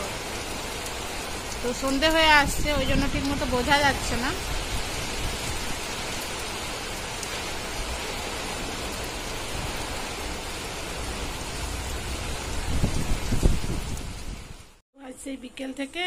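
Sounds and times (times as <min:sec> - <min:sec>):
rain hissing: 0:00.0 - 0:14.8.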